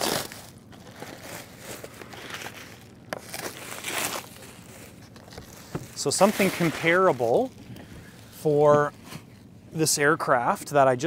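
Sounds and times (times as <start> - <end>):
plastic bag rustling and crinkling: 0.0 - 9.5.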